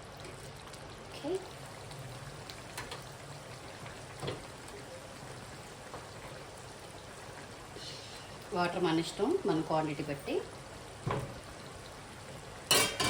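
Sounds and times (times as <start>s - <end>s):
water pouring into a pot: 0.0s - 13.0s.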